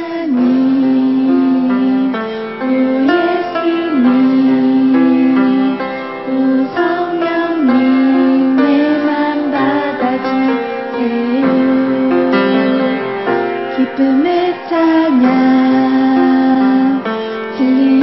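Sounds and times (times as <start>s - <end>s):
instrumental backing: 0.0s - 18.0s
song with sliding vocal melody: 0.0s - 18.0s.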